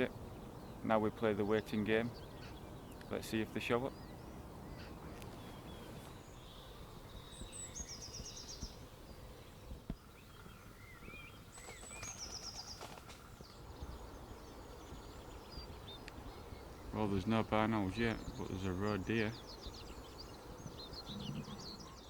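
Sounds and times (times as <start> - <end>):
low background hiss: 0.0 - 22.0
soft bird chirps: 0.0 - 22.0
songbird singing: 0.0 - 22.0.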